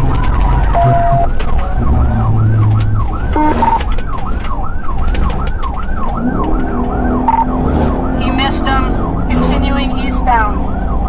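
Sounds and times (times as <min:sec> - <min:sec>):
car engine and tyres at speed: 0:00.0 - 0:11.0
police siren yelping: 0:00.0 - 0:11.0.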